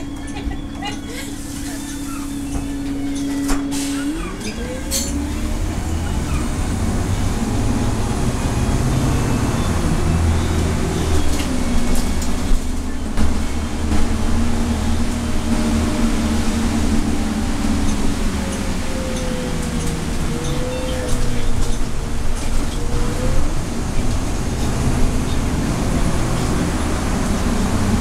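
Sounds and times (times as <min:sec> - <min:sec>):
bus engine drone: 0:00.0 - 0:28.0.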